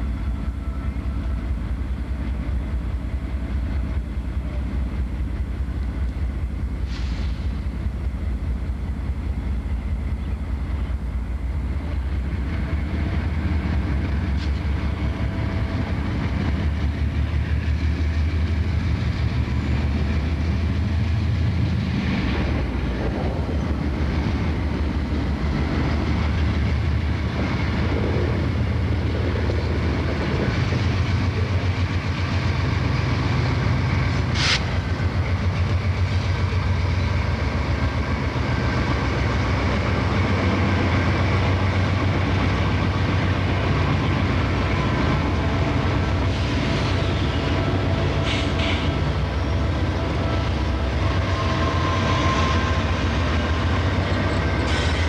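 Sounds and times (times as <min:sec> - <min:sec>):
freight train rumbling: 0:00.0 - 0:55.0.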